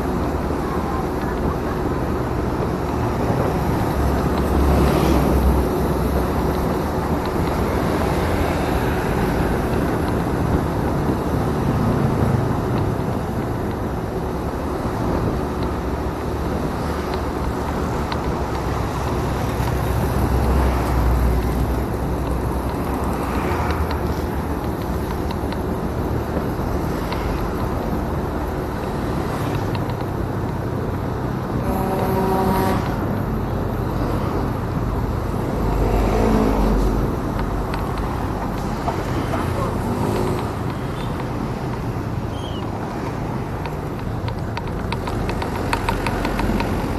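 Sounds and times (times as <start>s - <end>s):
passing traffic: 0.0s - 46.9s
wind rushing over microphone: 0.0s - 46.9s.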